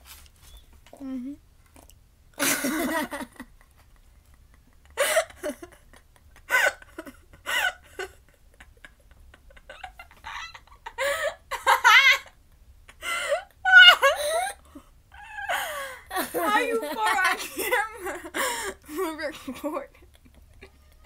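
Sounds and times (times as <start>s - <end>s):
girls laughing: 2.4s - 14.6s, 15.2s - 21.0s.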